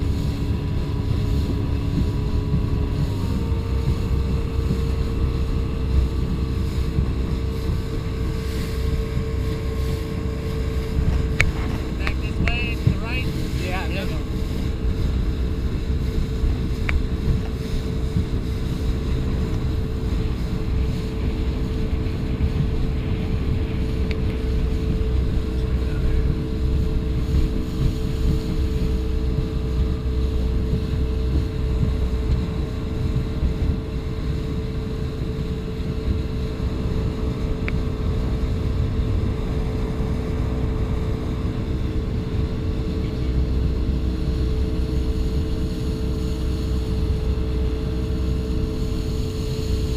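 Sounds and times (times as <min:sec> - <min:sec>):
motorboat engine running: 0:00.0 - 0:49.9
wind buffeting microphone: 0:00.0 - 0:49.9.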